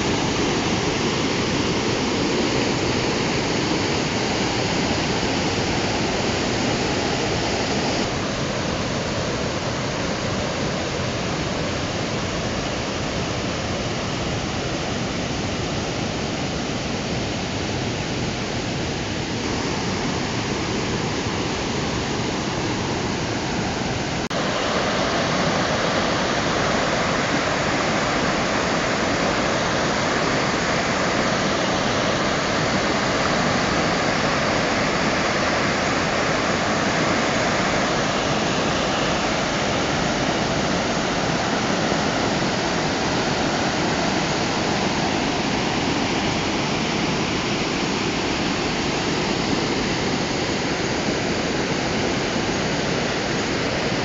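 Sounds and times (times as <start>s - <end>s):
rapids rushing over boulders: 0.0s - 54.0s.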